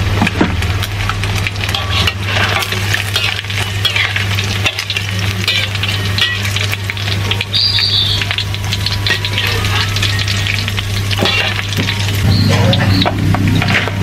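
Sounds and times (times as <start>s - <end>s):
hot oil sizzling and crackling: 0.0s - 14.0s
metal utensils scraping a wok: 1.6s - 14.0s.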